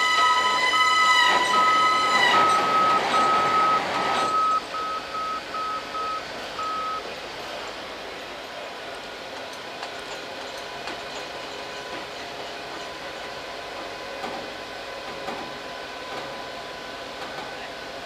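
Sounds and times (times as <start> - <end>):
crane engine running: 0.0 - 18.0.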